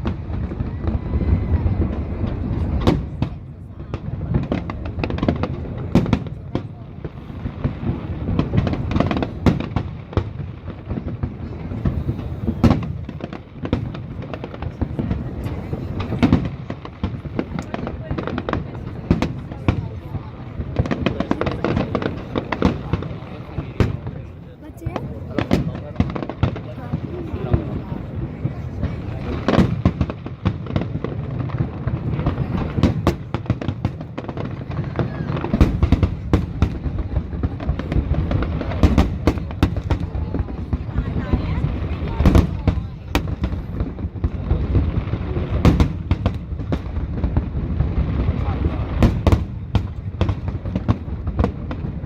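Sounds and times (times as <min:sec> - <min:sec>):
continuous rumble: 0:00.0 - 0:52.0
fireworks bangs and crackles: 0:00.0 - 0:52.0.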